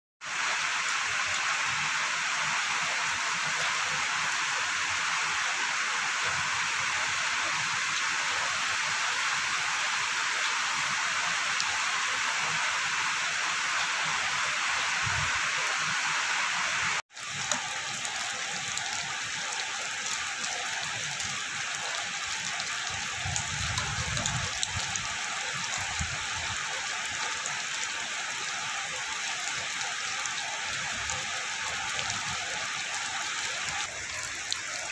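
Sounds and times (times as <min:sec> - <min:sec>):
heavy rain hissing: 0:00.2 - 0:34.9.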